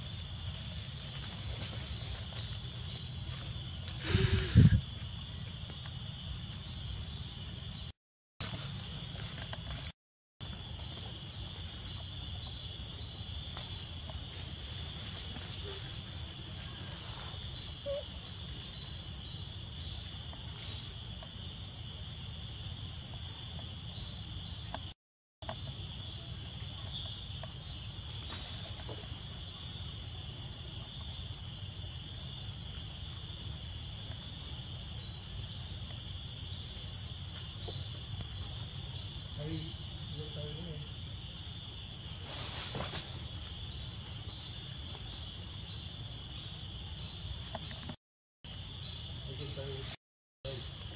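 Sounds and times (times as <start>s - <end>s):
chorus of forest insects: 0.0s - 50.9s.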